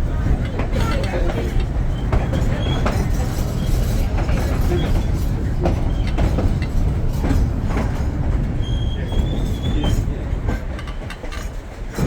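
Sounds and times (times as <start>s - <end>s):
train rumbling: 0.0s - 12.0s
wheels clacking over rail joints: 0.2s - 12.0s.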